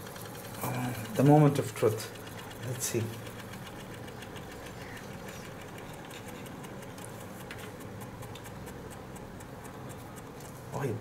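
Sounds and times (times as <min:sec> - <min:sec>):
small electric motor humming and ticking: 0:00.0 - 0:11.0.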